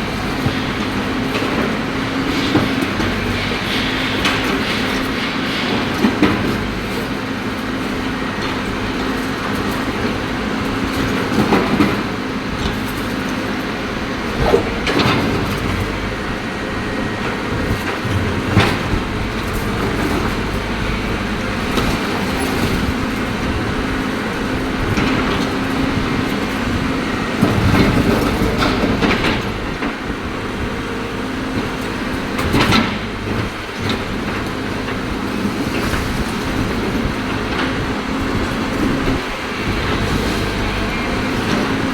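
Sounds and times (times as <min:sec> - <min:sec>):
excavator diesel engine under load: 0:00.0 - 0:41.9.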